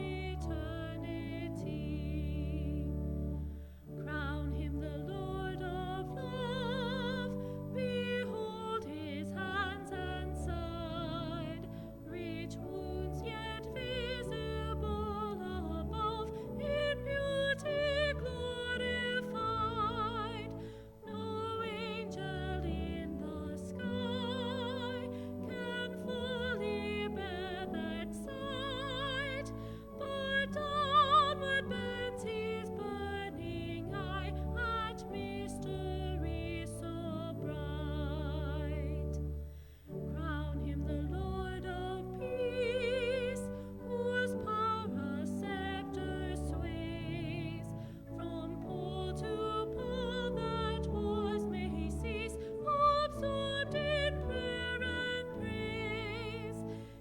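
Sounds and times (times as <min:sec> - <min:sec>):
person singing with vibrato: 0:00.0 - 0:39.2, 0:39.9 - 0:57.0
sustained keyboard chords: 0:00.0 - 0:57.0.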